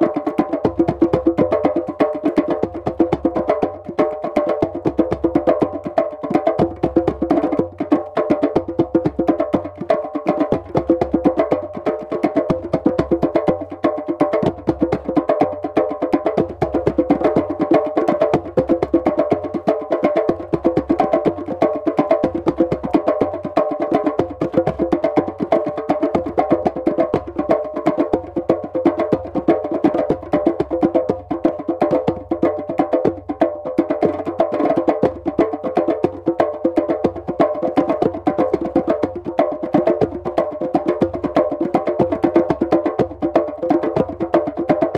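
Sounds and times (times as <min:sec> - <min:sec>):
hand drums playing fast rhythm: 0:00.0 - 0:44.9.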